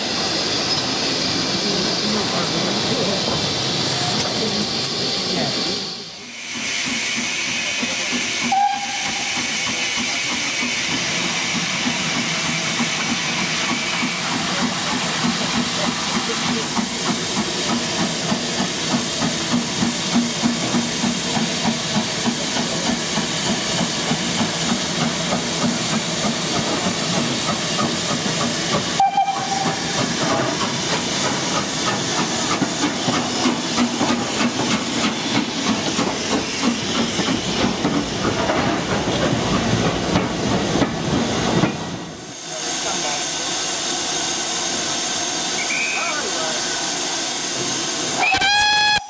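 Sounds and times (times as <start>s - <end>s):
hissing steam: 0.0s - 49.0s
steam locomotive exhaust beats: 0.0s - 49.0s.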